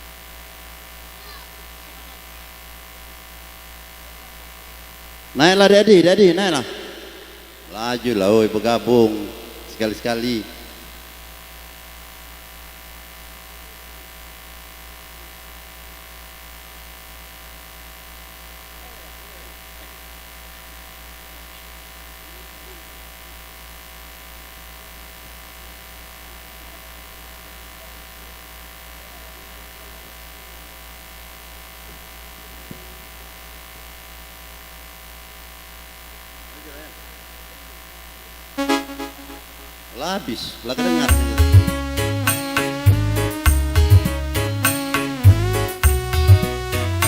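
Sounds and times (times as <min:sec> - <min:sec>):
electrical mains hum and buzz: 0:00.0 - 0:47.0.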